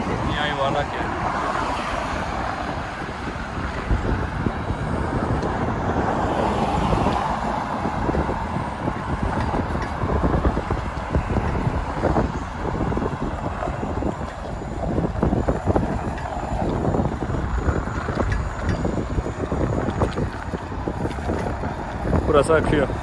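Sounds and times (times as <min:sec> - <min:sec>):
road traffic passing: 0:00.0 - 0:23.0
wind buffeting microphone: 0:00.0 - 0:23.0.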